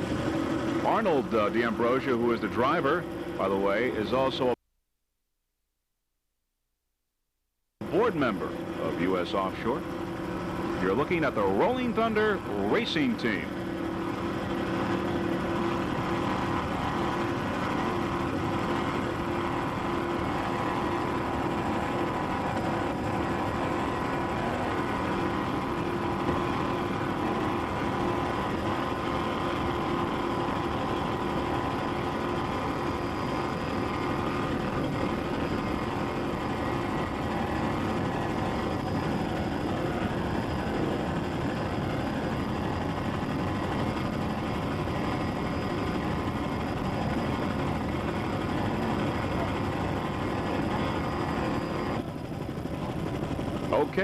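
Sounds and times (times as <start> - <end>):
engine drone: 0.0 - 4.6, 7.8 - 54.0.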